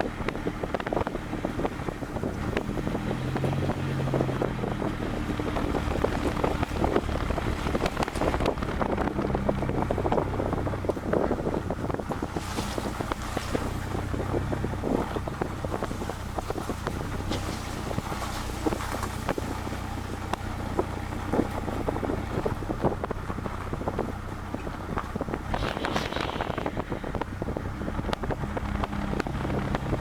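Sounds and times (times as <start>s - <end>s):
engine and road drone: 0.0s - 30.0s
wind buffeting microphone: 0.0s - 30.0s.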